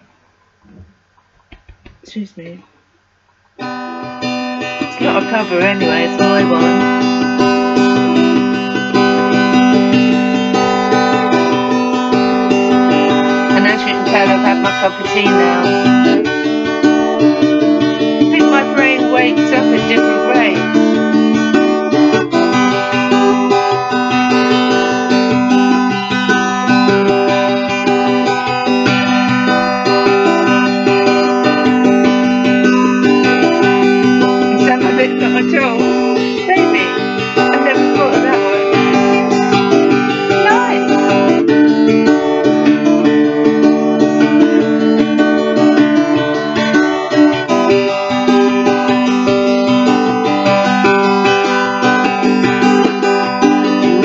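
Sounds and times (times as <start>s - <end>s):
acoustic guitar strumming: 3.5s - 54.0s.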